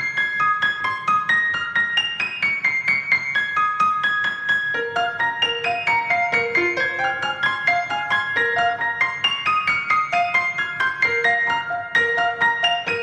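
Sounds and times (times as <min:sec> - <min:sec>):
quick high piano notes: 0:00.0 - 0:13.0.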